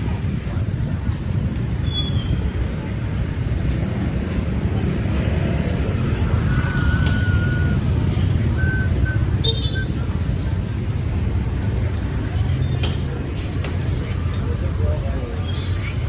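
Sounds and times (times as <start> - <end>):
low rumble of street traffic: 0.0 - 16.0.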